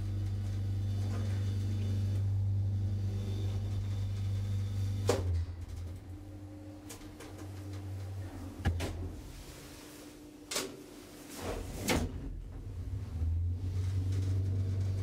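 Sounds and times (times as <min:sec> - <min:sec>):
lift machine low hum: 0:00.0 - 0:15.0.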